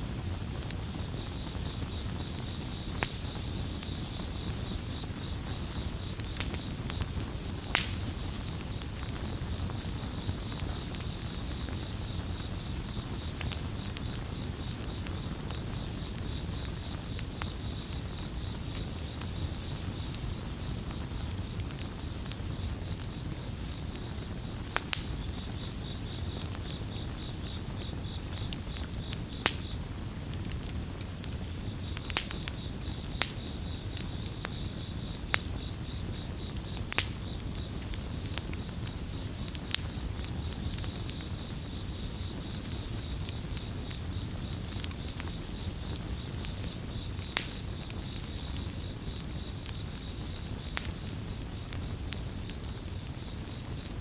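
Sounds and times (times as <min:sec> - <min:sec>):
wood fire crackling: 0:00.0 - 0:54.0
crickets chirping: 0:00.1 - 0:54.0.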